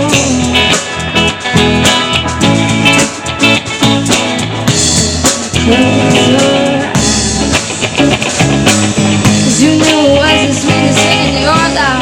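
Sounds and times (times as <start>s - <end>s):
guitar chords: 0.0s - 12.0s
steady drum beat: 0.0s - 12.0s.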